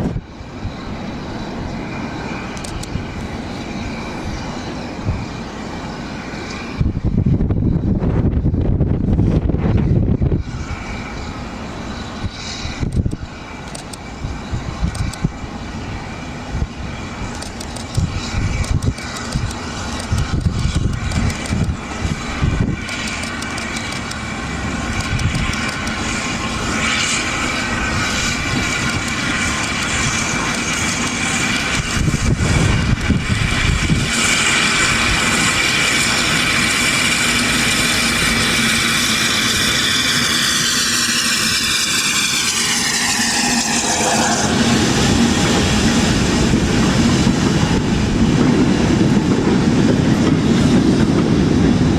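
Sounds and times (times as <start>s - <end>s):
train passing on rails: 0.0s - 51.9s.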